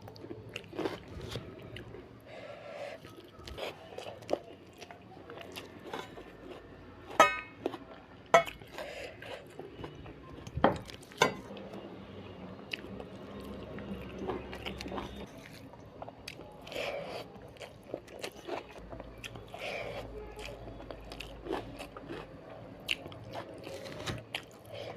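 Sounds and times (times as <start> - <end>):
crunchy chewing and biting: 0.0 - 11.2, 12.7 - 24.9.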